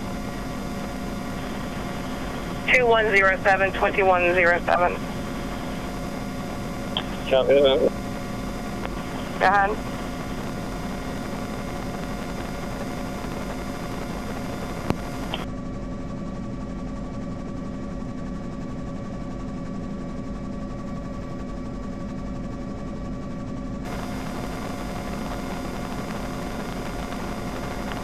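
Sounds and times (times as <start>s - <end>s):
helicopter engine and rotors drone: 0.0s - 28.0s.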